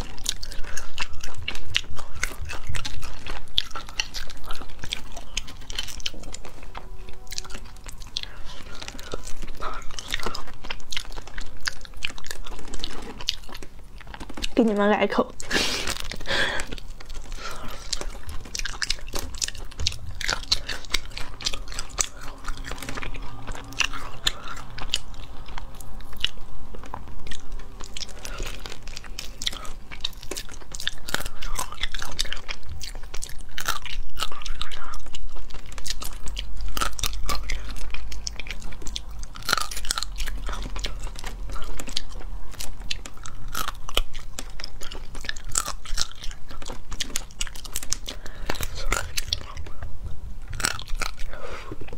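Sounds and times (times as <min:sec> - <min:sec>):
crunching and biting: 0:00.0 - 0:14.6, 0:15.4 - 0:51.9
chewing mouth sounds: 0:00.0 - 0:14.7, 0:15.4 - 0:51.9.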